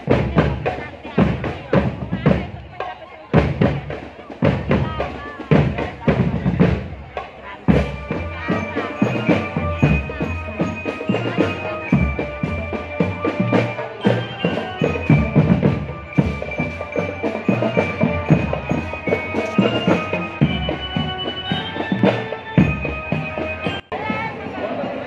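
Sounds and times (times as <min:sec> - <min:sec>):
marching drum band playing: 0:00.0 - 0:24.8.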